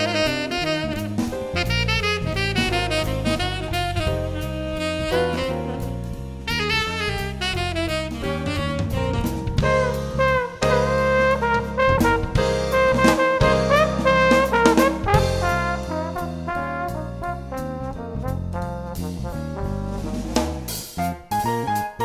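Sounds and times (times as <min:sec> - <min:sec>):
jazz music with brass: 0:00.0 - 0:22.0.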